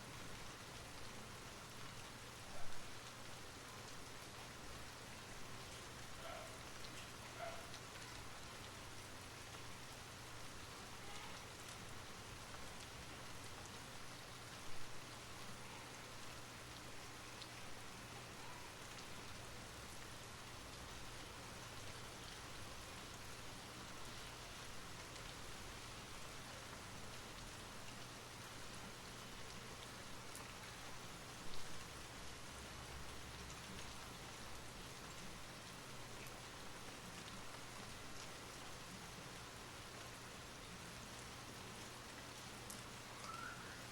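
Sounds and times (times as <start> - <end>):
steady rain patter: 0.0 - 43.9.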